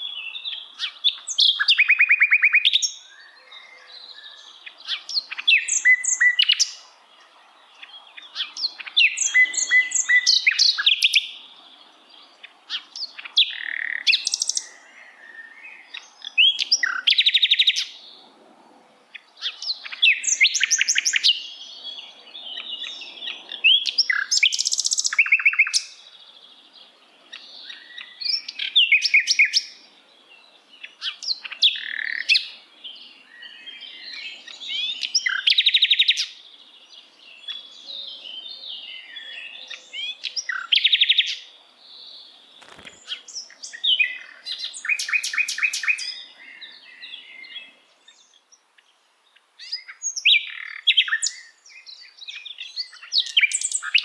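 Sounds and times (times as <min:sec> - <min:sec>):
songbird singing trills and whistles: 0:00.0 - 0:18.2, 0:19.1 - 0:54.0.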